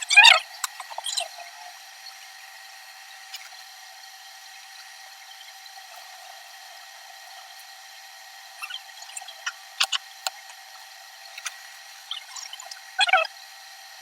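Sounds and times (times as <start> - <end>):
thin high whining tones: 0.0 - 13.6.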